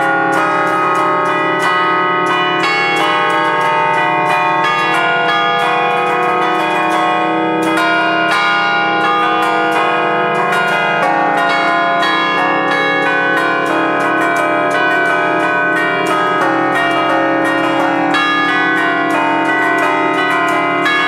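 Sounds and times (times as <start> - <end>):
church bells ringing melody: 0.0 - 21.0.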